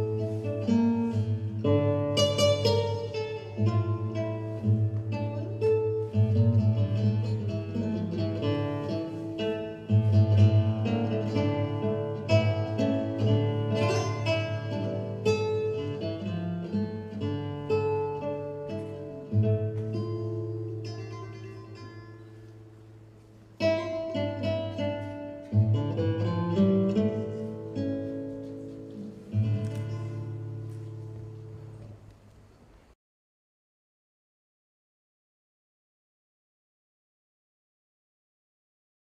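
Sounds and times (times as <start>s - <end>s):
plucked string music: 0.0s - 32.3s.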